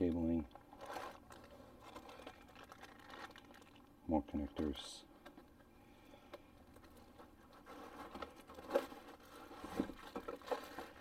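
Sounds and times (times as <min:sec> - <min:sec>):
plastic packaging crinkling: 0:00.0 - 0:05.6, 0:06.6 - 0:11.0.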